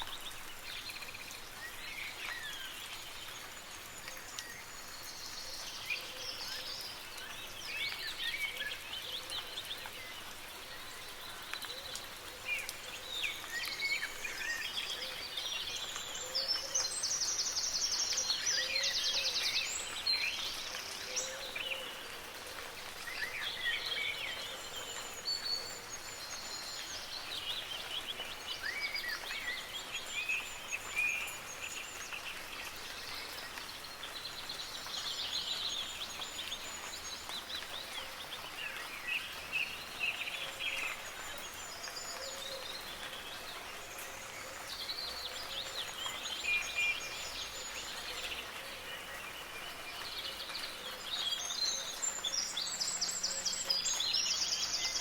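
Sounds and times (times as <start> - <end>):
light rain hiss: 0.0 - 55.0
songbirds chirping and warbling: 0.0 - 55.0.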